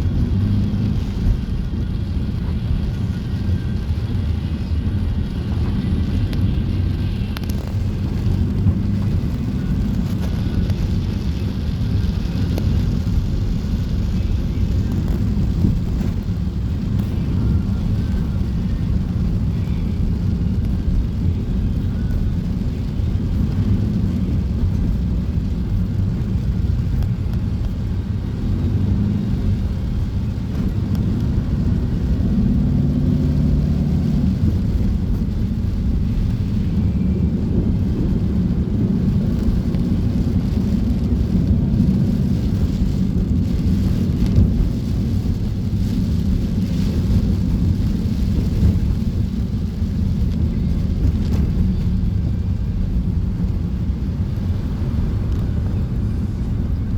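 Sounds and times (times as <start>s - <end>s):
heavy rain roaring: 0.0s - 56.9s
vehicle engine humming: 0.0s - 56.9s.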